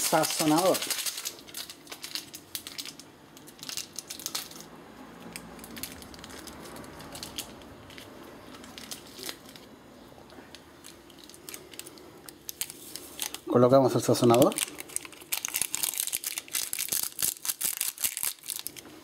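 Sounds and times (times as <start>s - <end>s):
plastic sachet crinkling: 0.0s - 4.7s, 5.3s - 9.8s, 10.5s - 19.0s.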